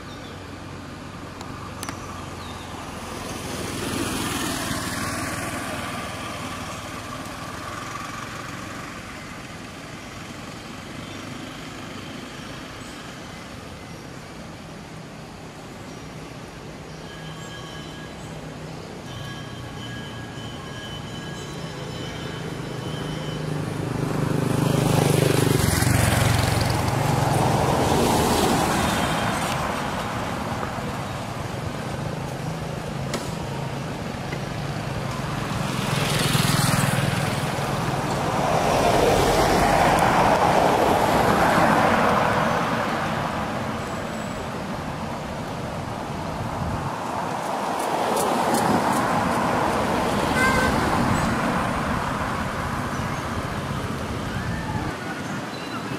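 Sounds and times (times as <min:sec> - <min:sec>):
vehicles driving past: 0:00.0 - 0:55.9.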